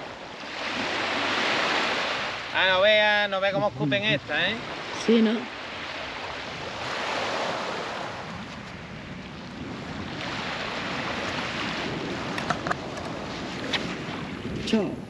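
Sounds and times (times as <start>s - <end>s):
sea waves breaking on shore: 0.0s - 15.0s
wind on microphone: 0.0s - 15.0s.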